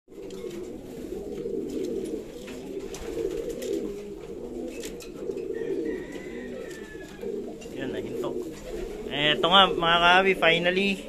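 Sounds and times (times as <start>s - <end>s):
pigeons cooing: 0.1s - 11.0s.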